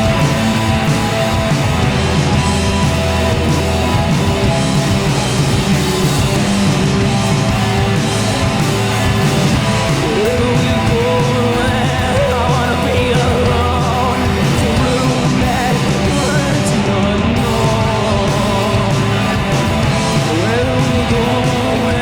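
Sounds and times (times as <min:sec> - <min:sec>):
bending electric guitar lead line: 0:00.0 - 0:22.0
rock band playing live: 0:00.0 - 0:22.0.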